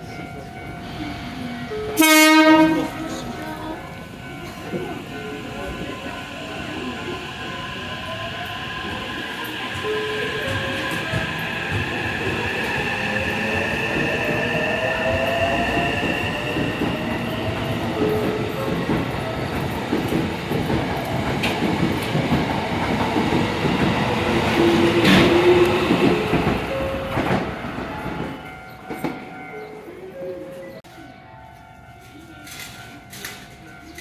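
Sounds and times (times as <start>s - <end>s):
train whine: 0.0s - 30.8s
train wheels clattering: 2.0s - 29.7s.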